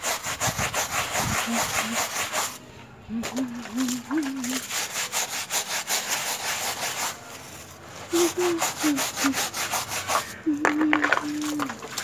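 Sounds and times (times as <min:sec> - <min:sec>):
brush scrubbing wet doormat: 0:00.0 - 0:12.0.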